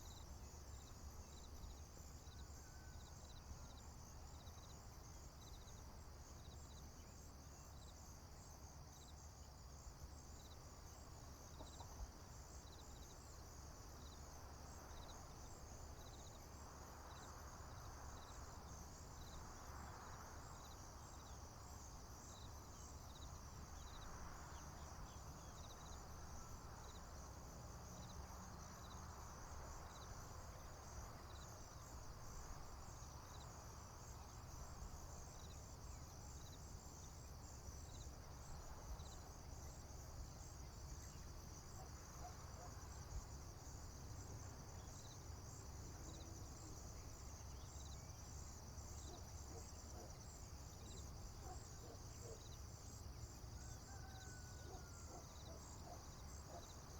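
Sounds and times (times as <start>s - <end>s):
insects trilling: 9.0s - 56.9s.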